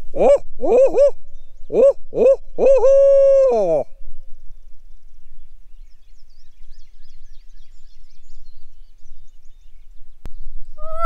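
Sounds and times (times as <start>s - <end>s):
songbirds singing: 0.0s - 3.0s, 3.8s - 11.0s.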